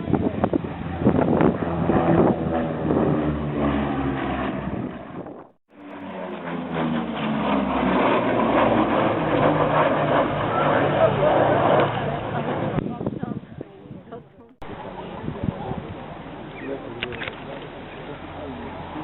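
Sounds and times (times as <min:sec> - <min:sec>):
aircraft piston engines droning: 0:00.0 - 0:19.0.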